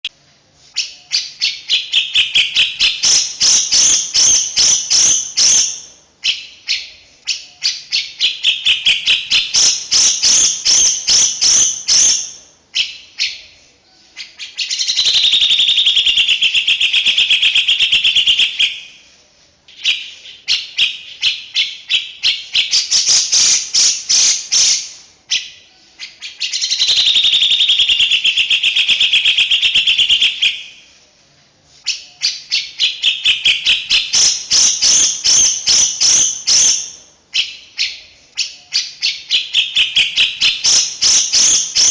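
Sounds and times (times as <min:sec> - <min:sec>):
songbird chattering song: 0:00.7 - 0:31.0, 0:31.8 - 0:41.9.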